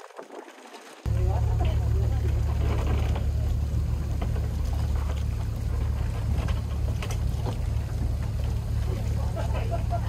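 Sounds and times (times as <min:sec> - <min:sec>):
boat engine droning: 0:01.0 - 0:10.0.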